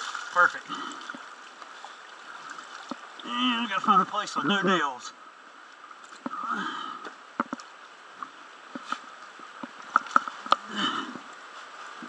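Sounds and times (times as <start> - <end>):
faint water trickle: 0.0 - 12.0.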